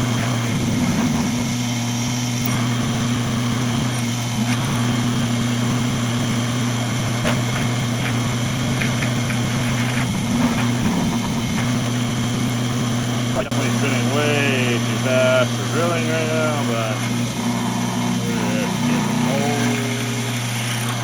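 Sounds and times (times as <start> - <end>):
milling machine spindle hum: 0.0 - 21.0.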